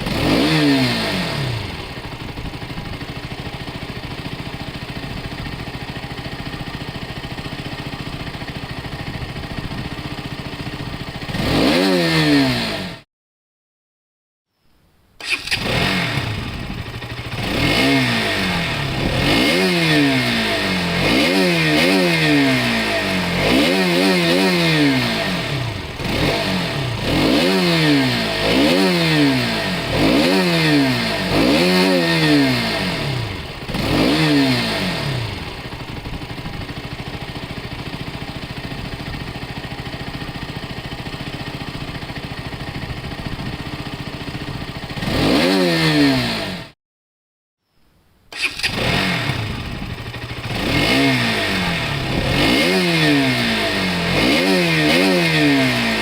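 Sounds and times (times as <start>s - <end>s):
motorcycle engine revving: 0.0s - 13.1s, 15.2s - 46.8s, 48.3s - 56.0s.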